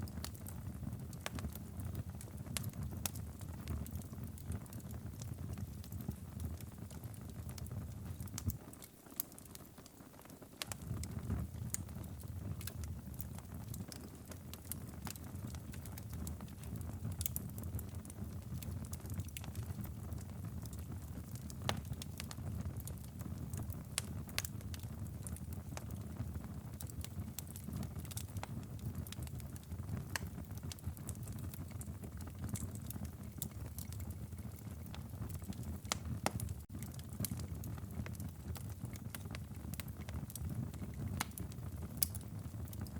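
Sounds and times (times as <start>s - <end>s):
fire pops and snaps: 0.0s - 42.9s
low rumble of flames: 0.0s - 42.9s.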